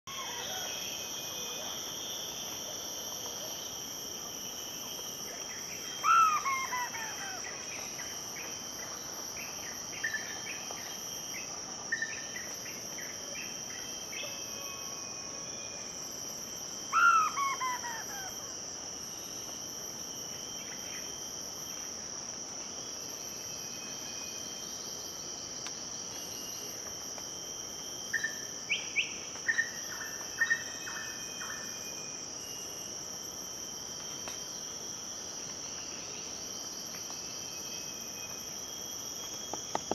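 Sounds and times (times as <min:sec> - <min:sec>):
high-pitched insect drone: 0:00.1 - 0:39.9.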